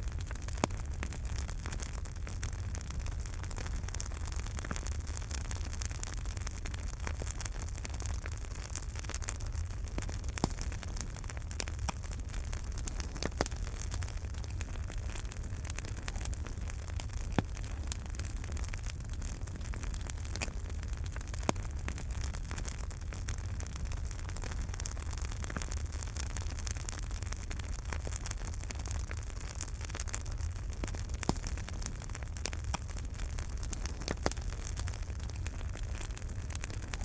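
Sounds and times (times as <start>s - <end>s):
fire flames rumbling: 0.0s - 37.0s
logs crackling and popping: 0.0s - 37.0s.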